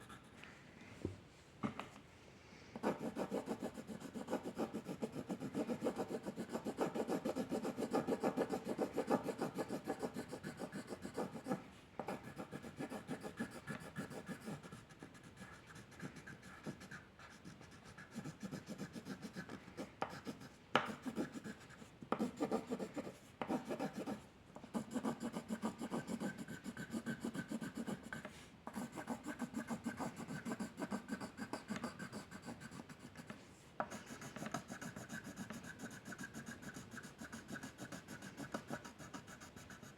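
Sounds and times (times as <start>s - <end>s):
pencil scribbling on paper: 2.8s - 39.9s.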